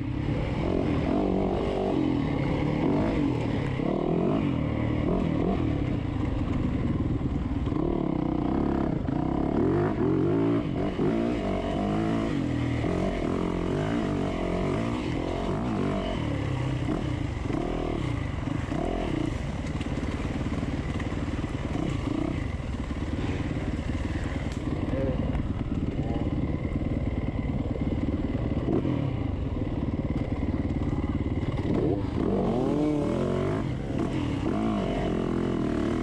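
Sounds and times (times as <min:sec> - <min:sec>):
dirt bike engine revving: 0:00.2 - 0:05.8, 0:07.7 - 0:27.0, 0:31.3 - 0:36.0.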